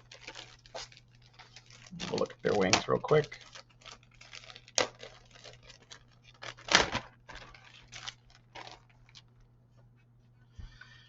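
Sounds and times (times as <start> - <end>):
plastic sprues in bags crinkling: 0.0 - 9.4.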